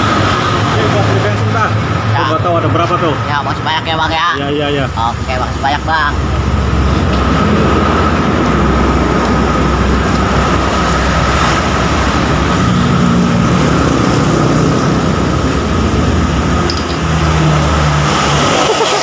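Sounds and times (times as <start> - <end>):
vehicle engine and road traffic: 0.0 - 19.0.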